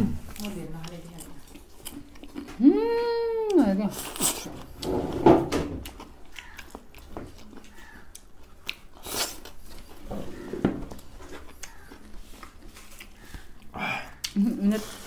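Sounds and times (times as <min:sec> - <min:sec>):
person chewing: 0:00.2 - 0:15.0.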